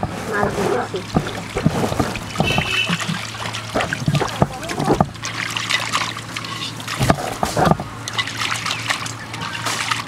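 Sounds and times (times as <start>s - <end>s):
water splashing in a pot: 1.0s - 10.0s.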